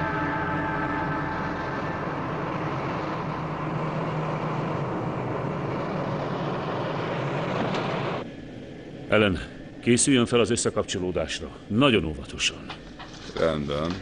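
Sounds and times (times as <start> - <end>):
spacecraft engines rumbling: 0.0 - 12.8
low hum: 0.0 - 13.4.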